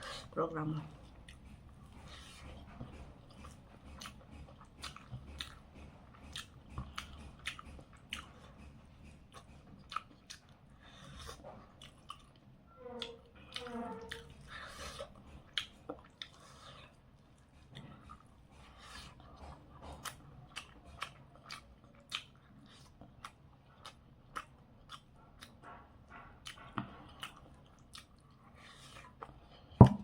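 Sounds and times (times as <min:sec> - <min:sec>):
mouth clicks and smacks chewing: 0:02.7 - 0:25.8, 0:26.4 - 0:29.4.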